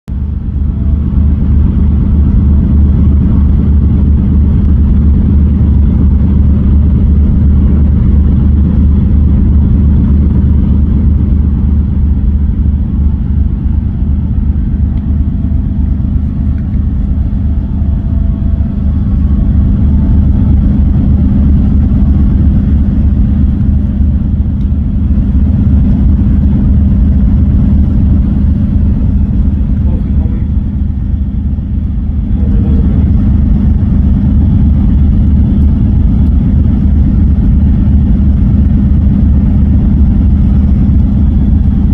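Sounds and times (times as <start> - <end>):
large engine droning: 0.0 - 41.9.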